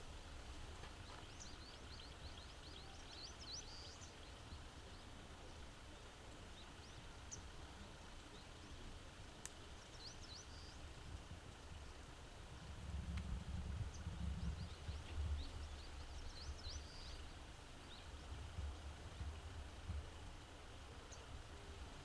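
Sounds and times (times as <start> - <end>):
small birds chirping: 0.7 - 12.2, 13.6 - 19.0, 20.8 - 22.0.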